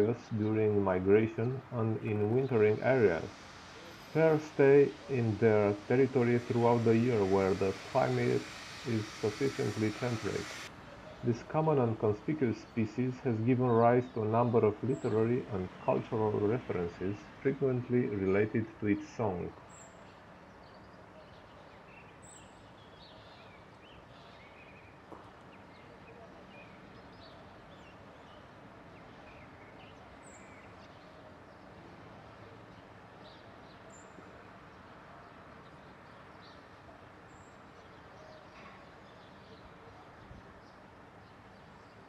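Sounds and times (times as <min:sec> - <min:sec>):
faint city background noise: 0:00.0 - 0:42.0.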